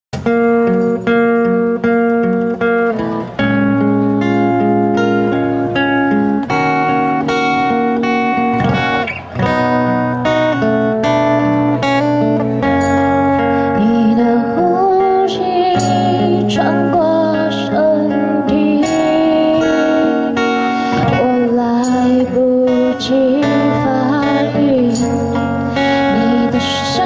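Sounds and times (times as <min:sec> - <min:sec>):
acoustic guitar chords: 0:00.2 - 0:27.0.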